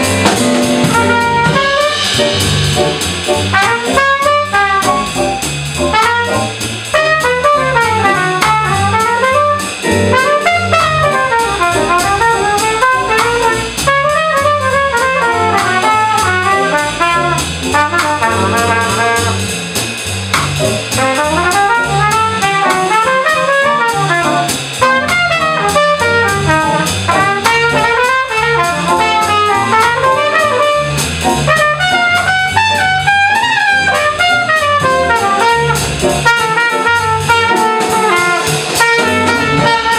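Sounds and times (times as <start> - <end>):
trumpet soloing: 0.0 - 19.6, 20.8 - 39.9
drum kit cymbals: 0.0 - 39.9
jazz combo playing swing: 0.0 - 39.9
upright bass: 0.0 - 39.9.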